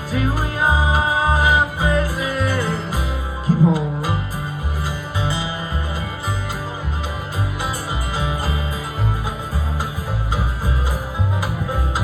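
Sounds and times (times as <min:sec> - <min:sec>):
bass line: 0:00.0 - 0:12.0
plucked acoustic guitar: 0:00.0 - 0:12.0.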